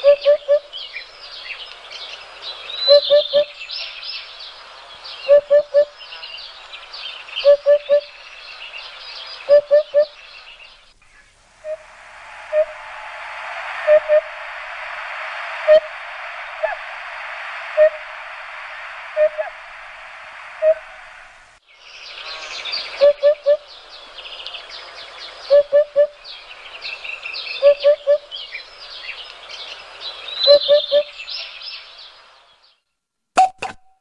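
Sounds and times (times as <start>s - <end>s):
low bird call: 0.0s - 32.2s
steady hiss: 0.0s - 32.8s.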